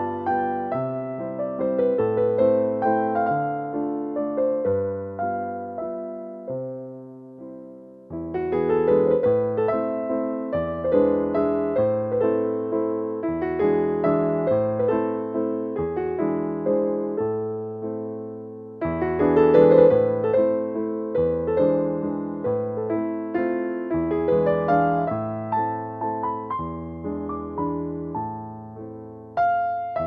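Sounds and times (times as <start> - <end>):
slow piano music: 0.0 - 30.0.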